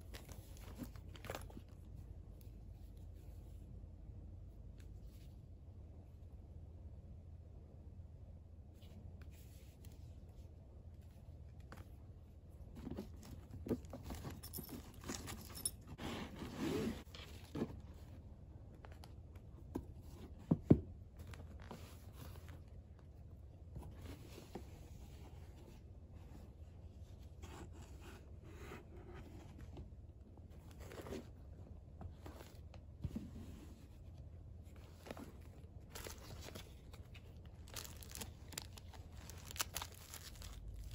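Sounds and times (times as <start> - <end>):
fabric and vinyl pouch rustling: 0.0 - 3.6, 8.8 - 19.0, 21.1 - 40.9.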